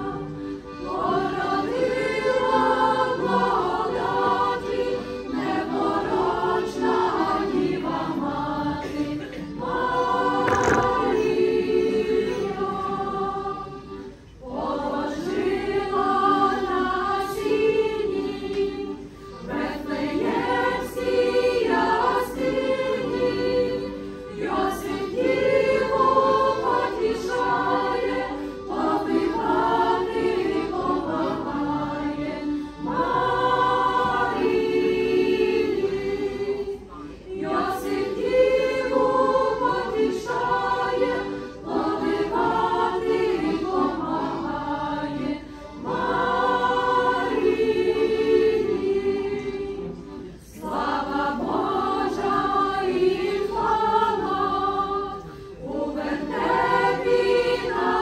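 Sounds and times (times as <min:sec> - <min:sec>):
church choir singing a carol: 0:00.0 - 0:58.0.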